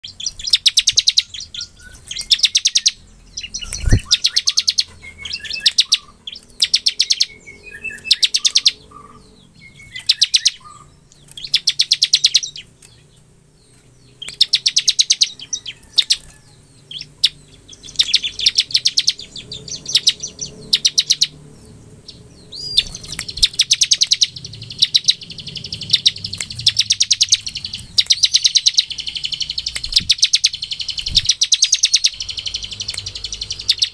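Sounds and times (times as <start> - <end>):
bird chirps: 0.0 - 33.9
bird clicking trills: 0.0 - 33.9.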